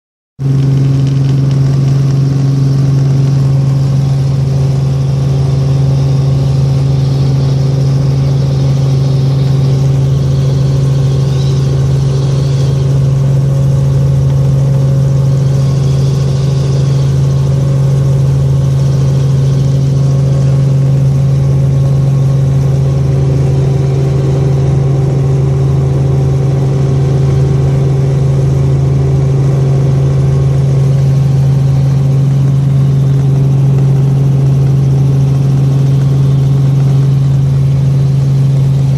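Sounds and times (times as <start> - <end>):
helicopter engine and rotors droning: 0.4 - 38.9.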